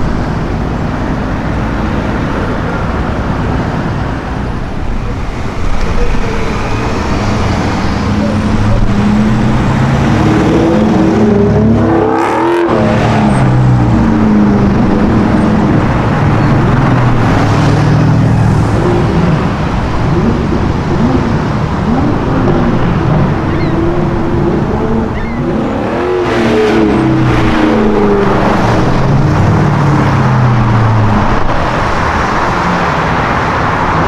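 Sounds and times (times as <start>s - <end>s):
sports car engine accelerating: 0.0s - 34.0s.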